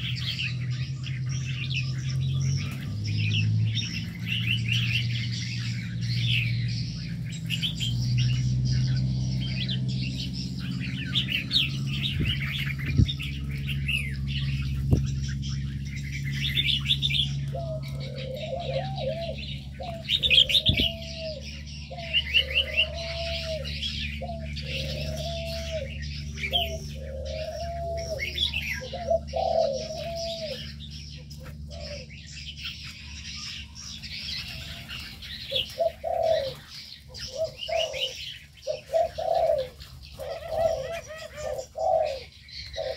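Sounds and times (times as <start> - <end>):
dove cooing: 0.0 - 42.9
small birds chirping: 0.0 - 42.9.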